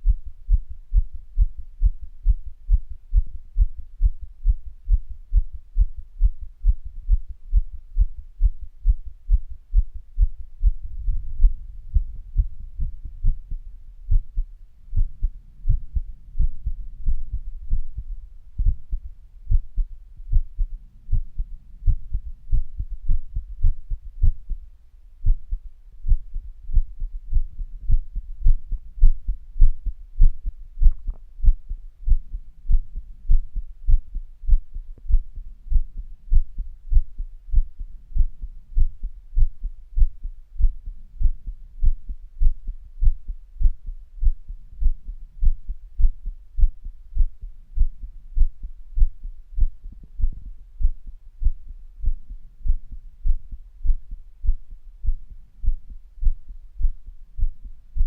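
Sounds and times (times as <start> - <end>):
heartbeat thumps: 0.0 - 58.0.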